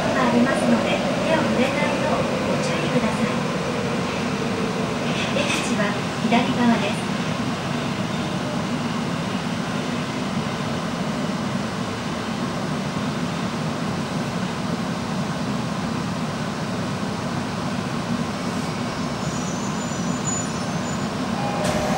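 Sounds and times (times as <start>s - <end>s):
subway car rumble on rails: 0.0s - 21.9s.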